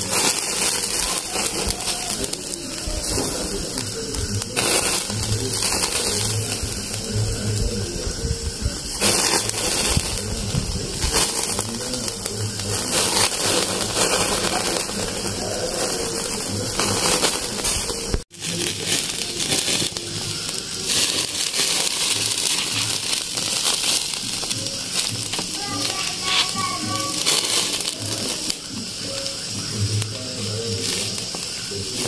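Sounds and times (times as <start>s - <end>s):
fat sizzling in flames: 0.0s - 32.0s
wood fire crackling: 0.0s - 32.0s.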